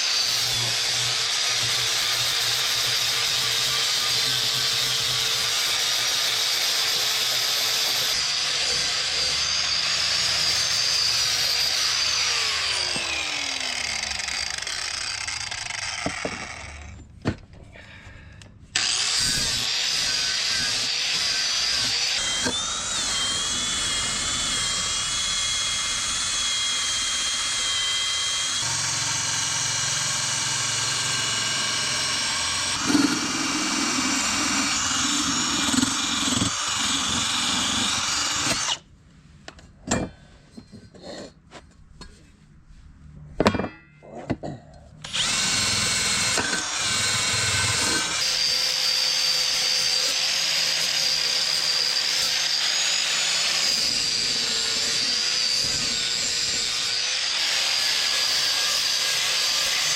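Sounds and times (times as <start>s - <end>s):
power tool whining on metal: 0.0s - 17.0s, 18.8s - 38.8s, 45.0s - 59.9s.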